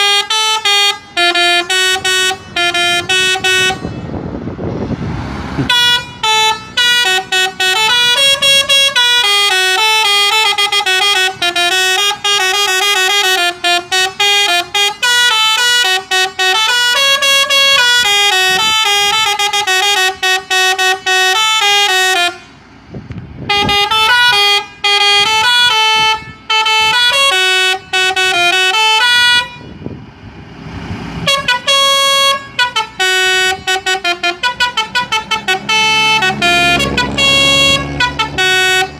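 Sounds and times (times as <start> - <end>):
multi-tone musical air horn: 0.0 - 4.2, 5.7 - 22.6, 23.4 - 29.8, 31.2 - 38.9
vehicle engine rumble: 0.0 - 38.9.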